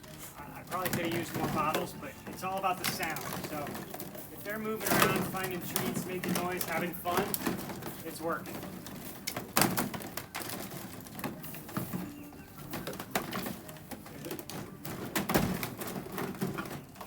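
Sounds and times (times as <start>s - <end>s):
plastic bottles crackling and clattering: 0.0s - 17.0s.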